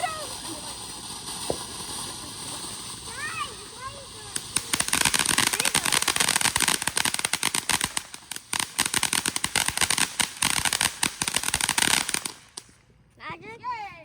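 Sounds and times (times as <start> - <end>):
firework crackling: 0.0 - 12.9.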